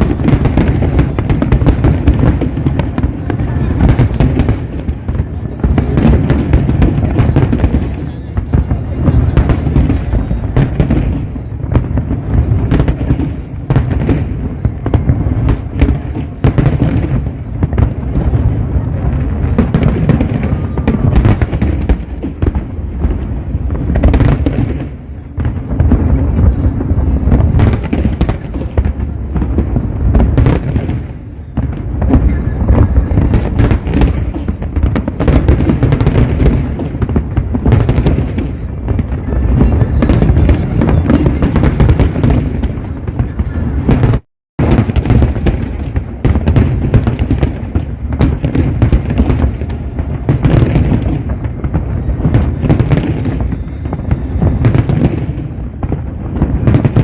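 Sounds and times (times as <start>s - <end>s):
fireworks booming and cracking: 0.0s - 57.0s.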